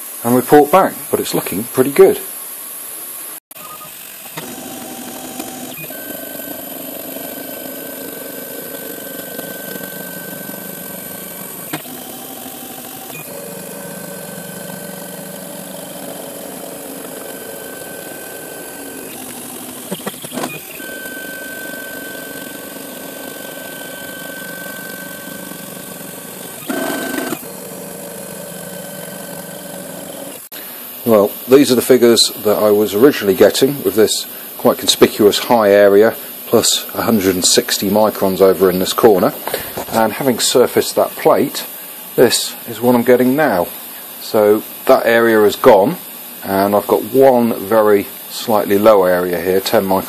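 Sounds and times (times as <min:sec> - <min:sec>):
milling machine motors whining: 0:00.0 - 0:50.0.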